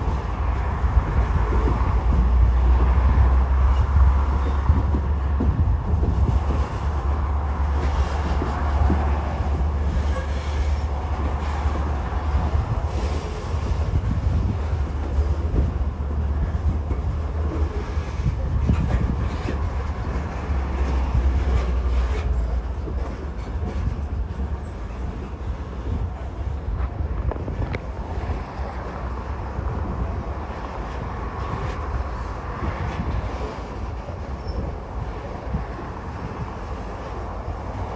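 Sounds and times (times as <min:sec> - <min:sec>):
freight train rumbling past: 0:00.0 - 0:37.9
wheels clicking over rail joints: 0:00.0 - 0:37.9.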